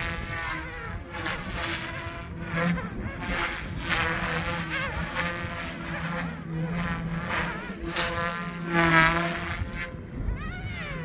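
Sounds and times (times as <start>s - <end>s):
rc helicopter buzzing: 0.0s - 11.0s.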